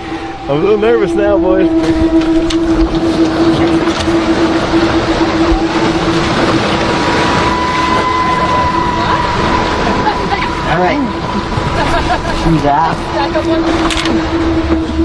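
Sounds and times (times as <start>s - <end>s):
engine drone: 0.0s - 15.0s
high steady whine: 0.0s - 15.0s
low hum: 0.0s - 15.0s.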